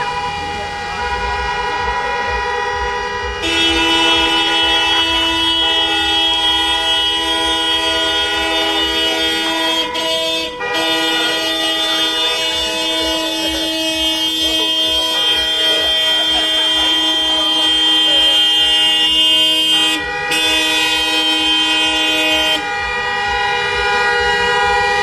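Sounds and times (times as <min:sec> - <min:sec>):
vehicle horns held down: 0:00.0 - 0:25.0.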